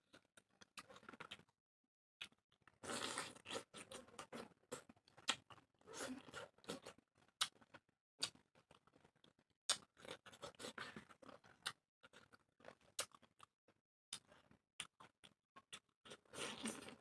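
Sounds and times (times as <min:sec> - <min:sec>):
person chewing food: 0:00.1 - 0:01.5, 0:02.2 - 0:13.5, 0:14.1 - 0:17.0.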